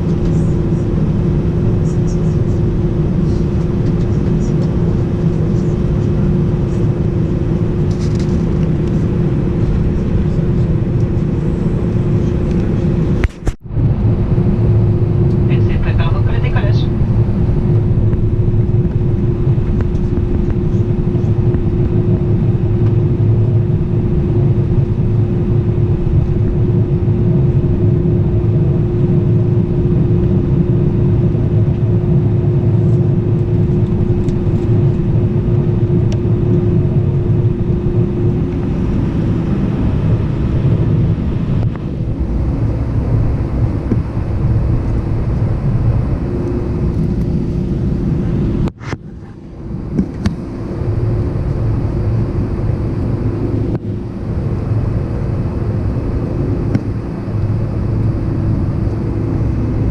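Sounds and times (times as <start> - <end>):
airflow noise: 0.0 - 59.9
airplane cabin engine rumble: 0.0 - 59.9.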